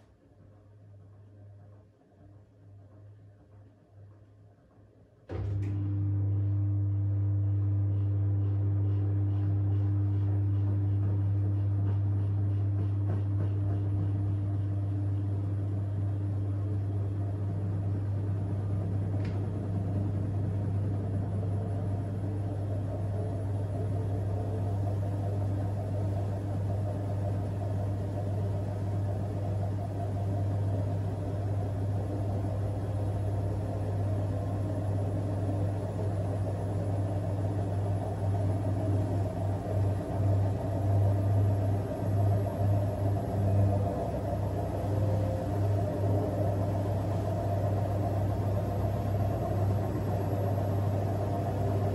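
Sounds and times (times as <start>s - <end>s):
washing machine drum spinning: 5.3s - 51.9s.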